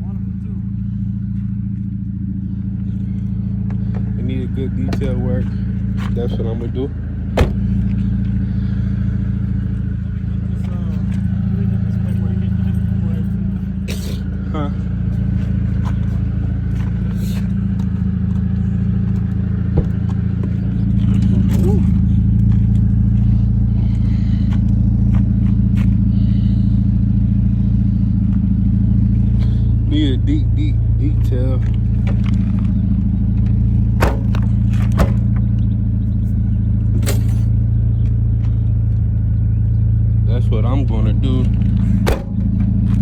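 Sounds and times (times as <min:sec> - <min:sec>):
car engine with deep exhaust drone: 0:00.0 - 0:43.0.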